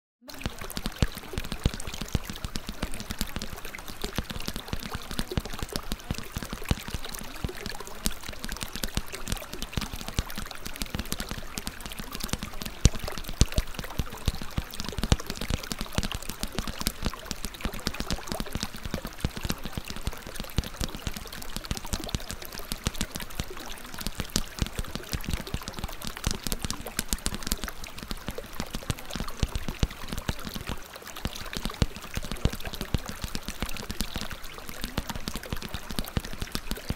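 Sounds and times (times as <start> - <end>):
running water: 0.2 - 36.9
small splashes and crackles: 0.2 - 36.9.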